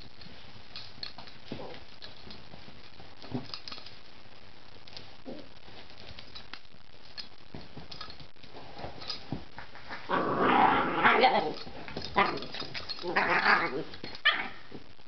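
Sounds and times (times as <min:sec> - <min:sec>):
light clicks and patter: 0:00.0 - 0:04.1, 0:04.8 - 0:10.0, 0:11.3 - 0:14.3.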